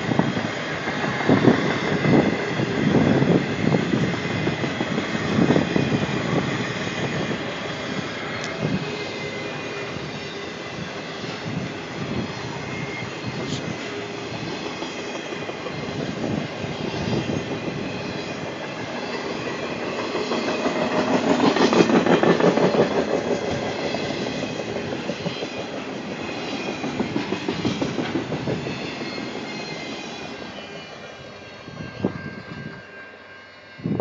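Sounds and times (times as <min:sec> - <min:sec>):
freight train wheels clattering: 0:00.1 - 0:30.8.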